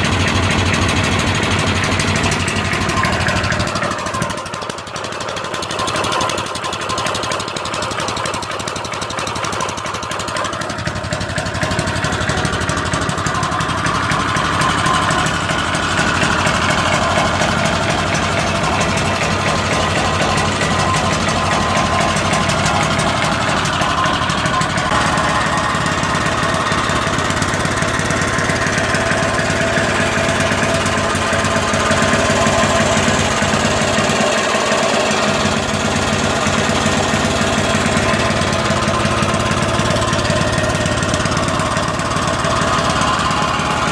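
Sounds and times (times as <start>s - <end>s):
small stationary engine running: 0.0s - 43.9s.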